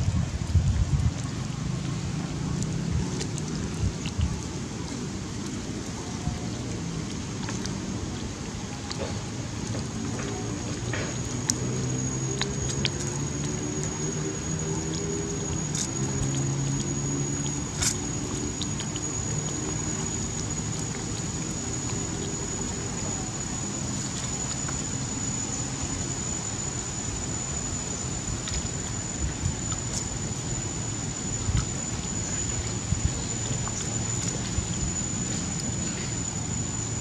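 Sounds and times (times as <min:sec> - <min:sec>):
high thin whine: 0:00.0 - 0:37.0
low drone: 0:00.0 - 0:37.0.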